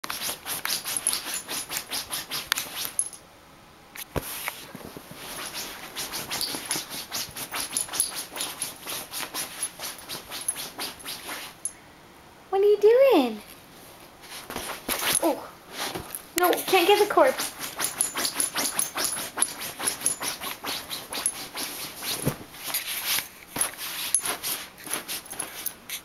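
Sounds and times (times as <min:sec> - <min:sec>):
dog scratching fabric blanket: 0:00.0 - 0:03.0, 0:04.2 - 0:11.6, 0:14.2 - 0:26.0.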